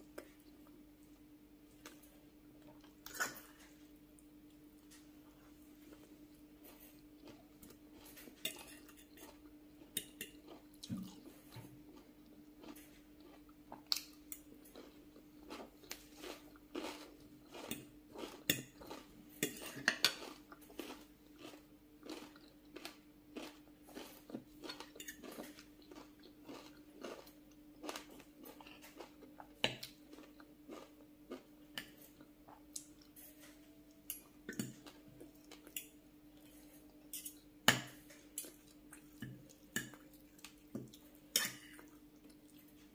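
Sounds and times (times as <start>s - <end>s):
chewing and mouth sounds: 4.4s - 37.4s, 38.1s - 42.9s.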